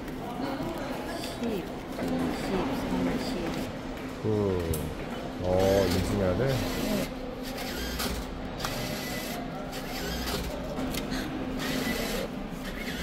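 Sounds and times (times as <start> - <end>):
kiosk mechanism whirring: 0.0 - 13.0.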